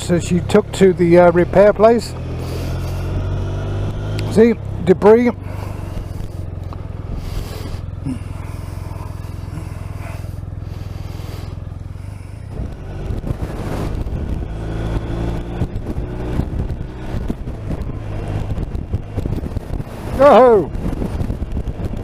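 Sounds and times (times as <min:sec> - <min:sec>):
gusty wind buffeting: 0:00.0 - 0:22.0
motorcycle engine running: 0:00.0 - 0:22.0.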